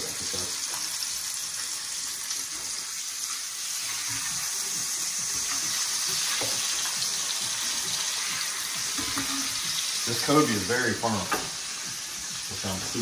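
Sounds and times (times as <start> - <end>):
fish sizzling in a skillet: 0.0 - 13.0.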